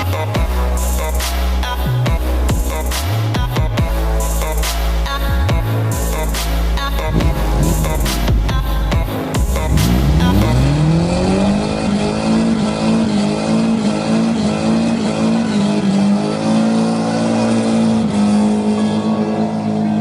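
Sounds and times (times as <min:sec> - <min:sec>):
car engine revving: 0:01.0 - 0:20.0.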